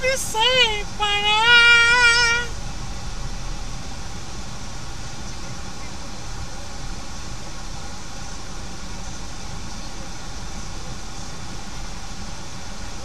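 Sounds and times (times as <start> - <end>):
car engine: 0.0 - 13.0.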